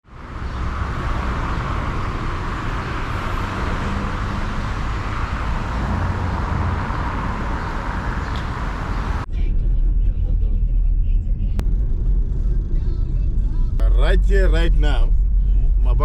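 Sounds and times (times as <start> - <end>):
car driving on road: 0.0 - 16.0.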